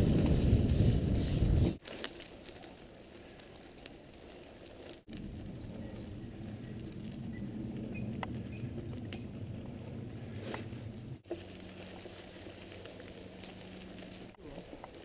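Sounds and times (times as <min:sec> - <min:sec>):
bike tyres rumbling on wet dirt: 0:00.0 - 0:04.1, 0:04.8 - 0:15.0
grit and water clicks and patter: 0:00.0 - 0:15.0.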